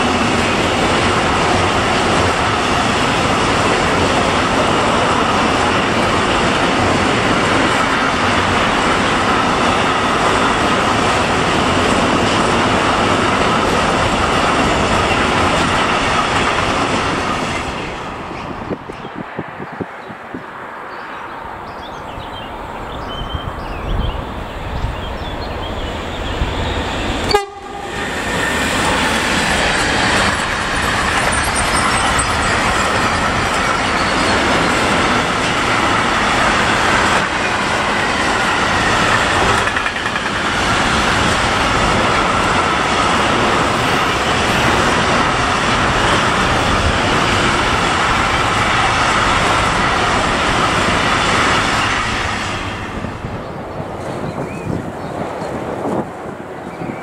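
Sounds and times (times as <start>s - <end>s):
freight train passing: 0.0s - 57.0s.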